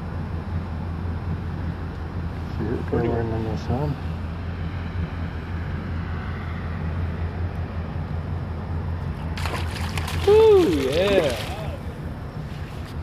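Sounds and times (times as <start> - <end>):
boat motor humming: 0.0 - 13.0
wind: 0.0 - 13.0.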